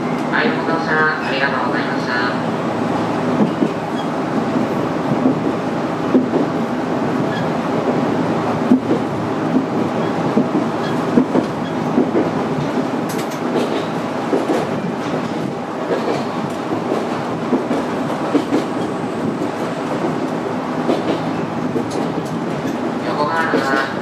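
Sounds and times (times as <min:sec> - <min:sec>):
electric train running rumble: 0:00.0 - 0:24.0.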